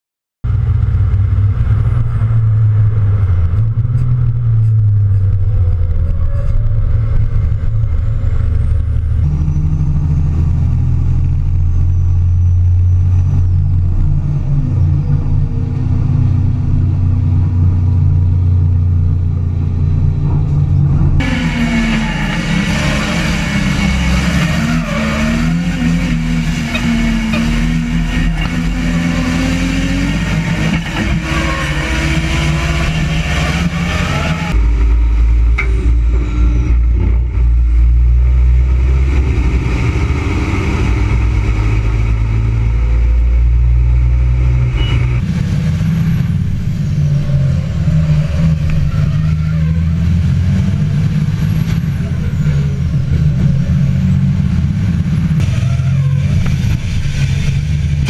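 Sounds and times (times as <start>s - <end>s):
deep engine rumble: 0.4s - 58.0s
diesel truck engines running: 0.5s - 58.0s.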